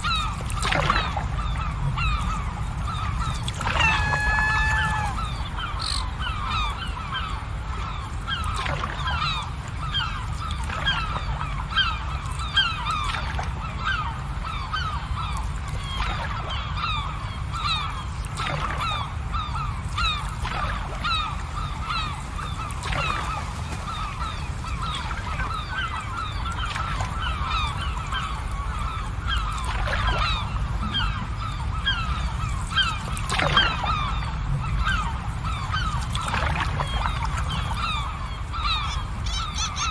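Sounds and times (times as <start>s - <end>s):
flock of birds calling: 0.0s - 39.9s.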